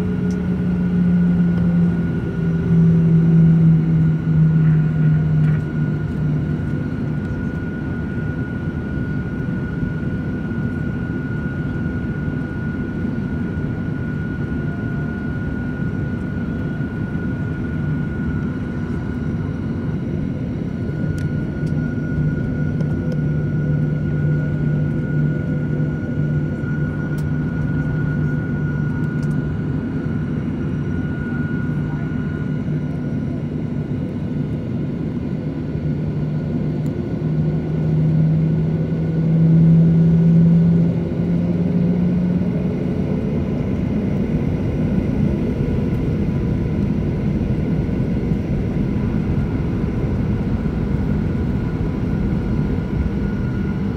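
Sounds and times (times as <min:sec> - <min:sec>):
jet engines idling: 0:00.0 - 0:53.9.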